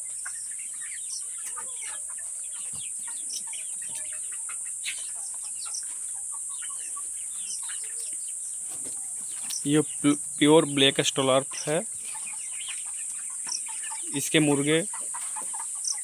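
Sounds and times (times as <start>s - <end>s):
chicks peeping and clucking: 0.0s - 16.0s.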